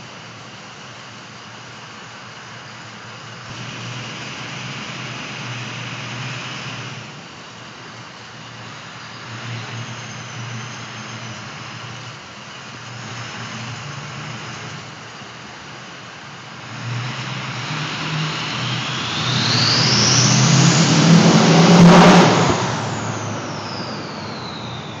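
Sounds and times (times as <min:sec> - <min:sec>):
diesel engine revving: 0:01.4 - 0:25.0.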